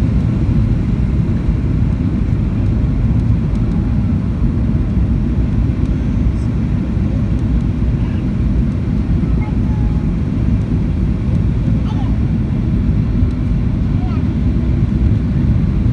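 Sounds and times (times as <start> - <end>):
airliner cabin engine rumble: 0.0 - 15.9.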